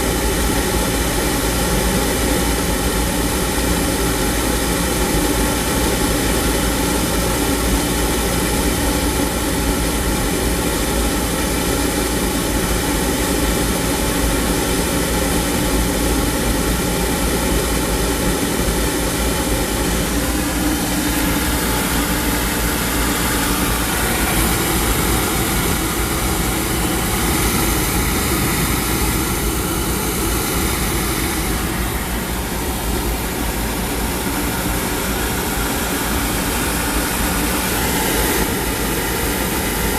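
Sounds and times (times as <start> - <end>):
oil burner mechanical drone: 0.0 - 39.9.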